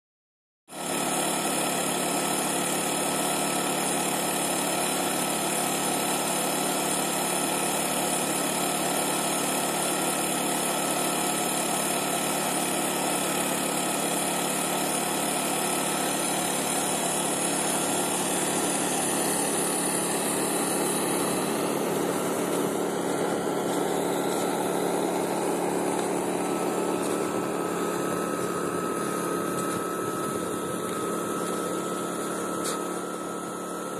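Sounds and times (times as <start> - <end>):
small motor humming: 0.7 - 33.9.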